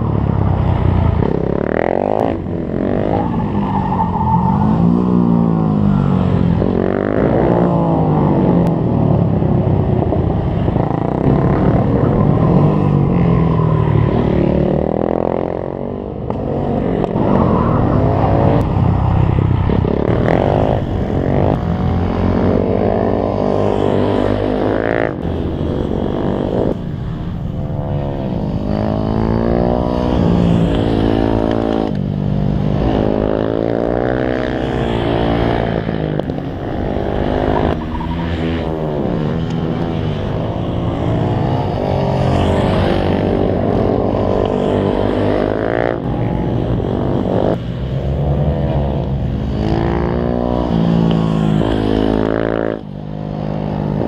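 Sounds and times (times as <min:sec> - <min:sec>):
motorcycle engines braking and accelerating: 0:00.0 - 0:54.0.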